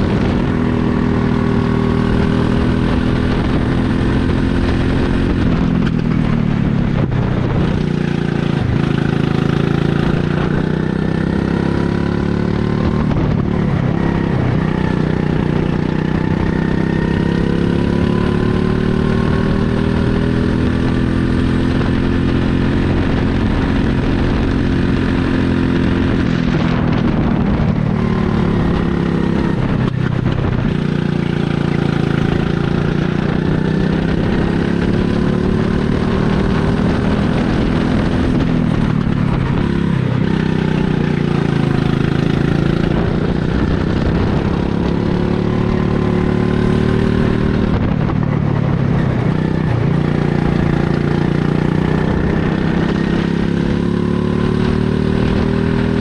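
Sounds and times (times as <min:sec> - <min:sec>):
go-kart engine at high revs: 0:00.0 - 0:56.0.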